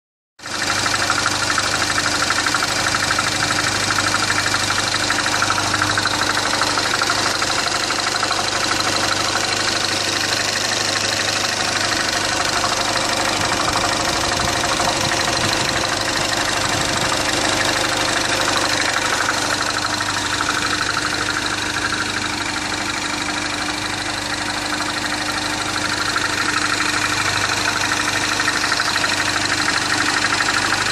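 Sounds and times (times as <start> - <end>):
car engine idling with knocking: 0.4 - 30.9.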